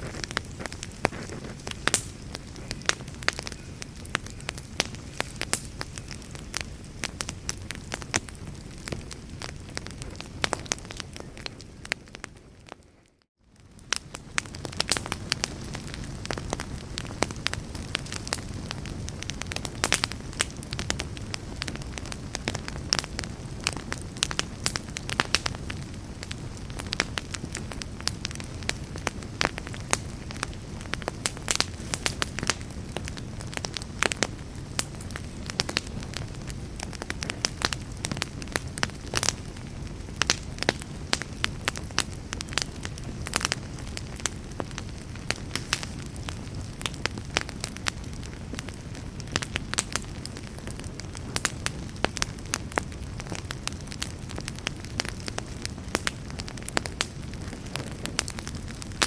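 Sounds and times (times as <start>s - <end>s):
fire crackles and pops: 0.0s - 59.0s
low rush of flames: 0.0s - 59.0s.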